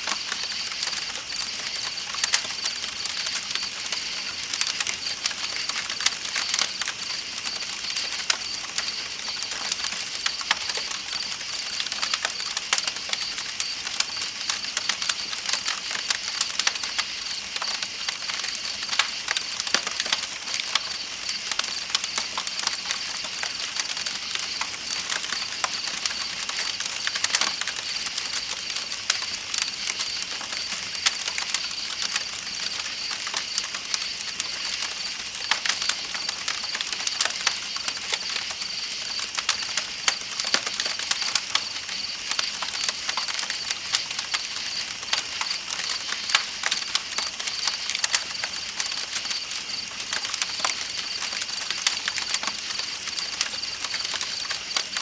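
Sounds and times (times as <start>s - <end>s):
campfire crackling and popping: 0.0s - 55.0s
night insects trilling: 0.0s - 55.0s.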